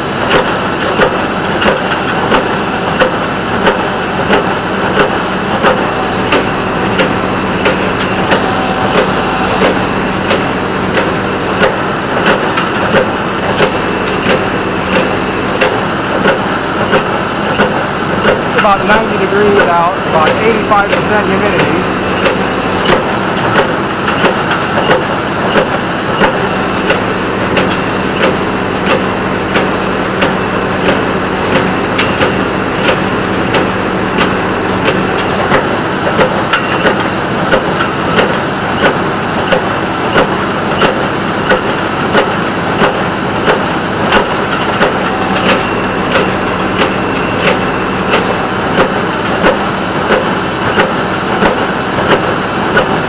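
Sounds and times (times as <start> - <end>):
tractor engine running: 0.0 - 53.0
hay baler plunger knocking: 0.2 - 53.0.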